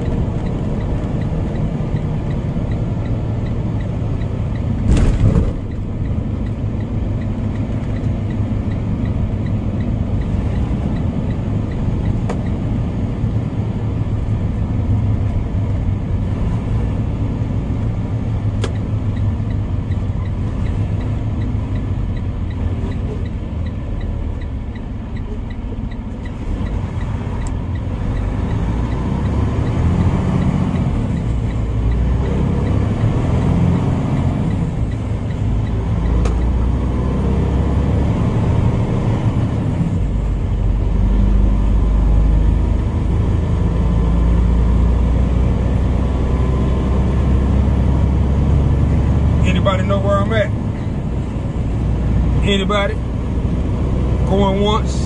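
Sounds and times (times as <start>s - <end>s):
road noise: 0.0s - 55.0s
truck diesel engine rumble: 0.0s - 55.0s.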